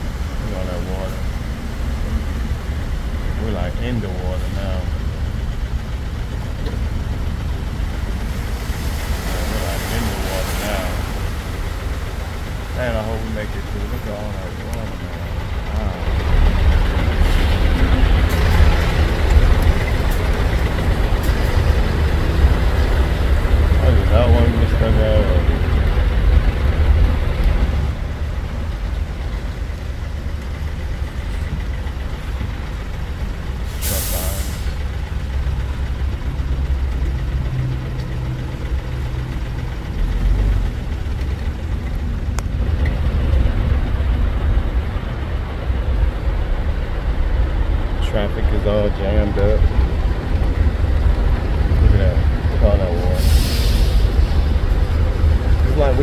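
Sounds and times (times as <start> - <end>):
rushing floodwater: 0.0 - 56.0
tuk-tuk engine rumble: 0.0 - 56.0.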